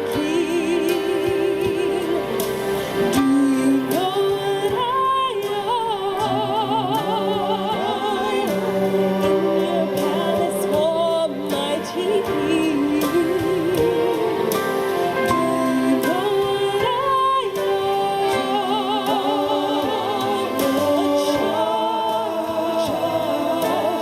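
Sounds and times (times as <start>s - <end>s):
person singing with vibrato: 0.0s - 24.0s
sustained backing music: 0.0s - 24.0s.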